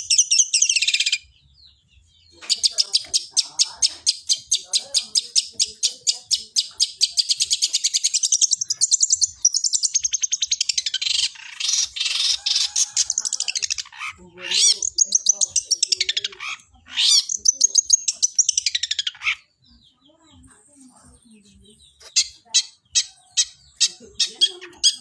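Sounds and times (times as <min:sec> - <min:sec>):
bird chattering song: 0:00.0 - 0:25.0.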